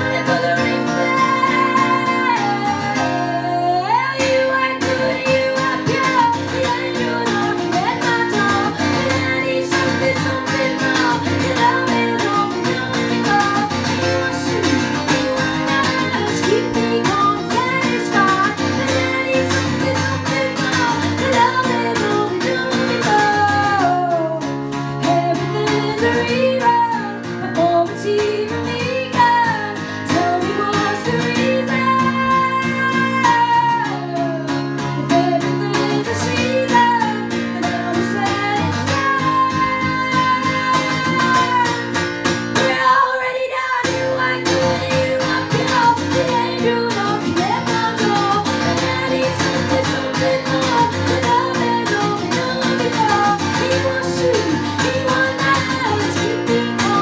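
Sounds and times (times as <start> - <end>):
strummed acoustic guitar: 0.0 - 57.0
woman singing: 0.0 - 57.0.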